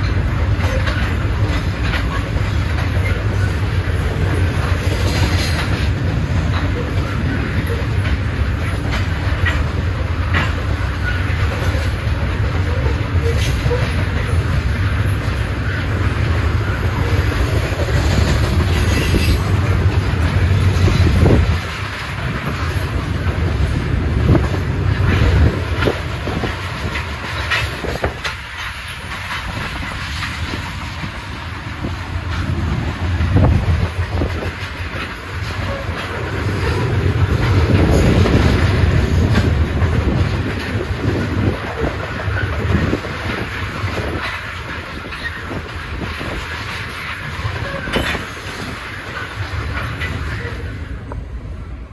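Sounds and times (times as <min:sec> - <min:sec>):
clickety-clack over rail joints: 0:00.0 - 0:51.9
steel wheels rumbling on rail: 0:00.0 - 0:51.9.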